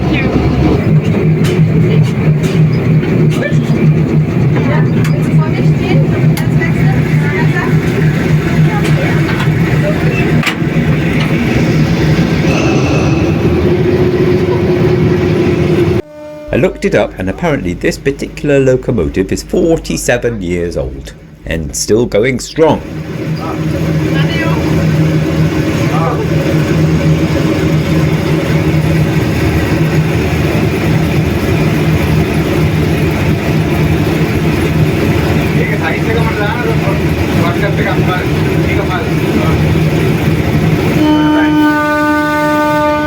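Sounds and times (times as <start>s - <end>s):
locomotive engine drone: 0.0s - 43.0s
rail noise: 0.0s - 43.0s.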